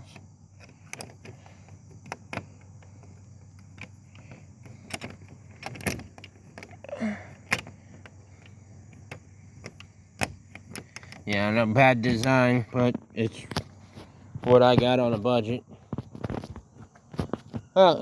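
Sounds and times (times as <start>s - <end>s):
footsteps outdoors: 0.0s - 18.0s.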